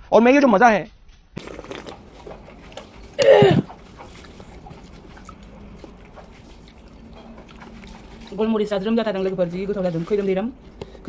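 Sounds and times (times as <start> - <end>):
eating by hand from plate: 1.4 - 11.0.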